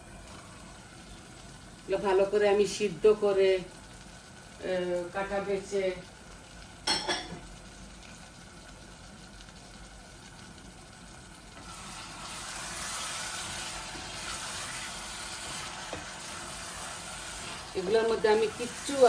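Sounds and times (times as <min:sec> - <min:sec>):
fish sizzling in oil: 0:00.0 - 0:19.0.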